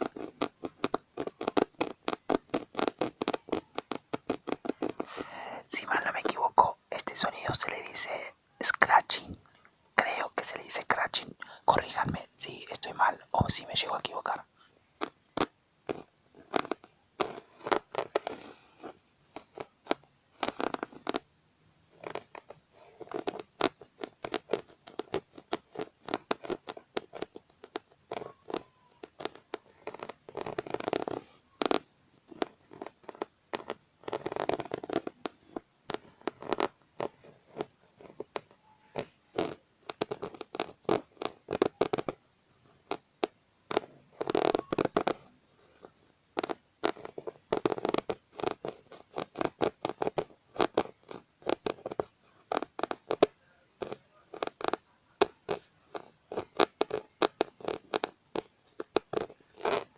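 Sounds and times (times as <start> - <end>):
scratching on keyboard keys: 0.0 - 9.3, 15.0 - 21.2, 21.9 - 59.9.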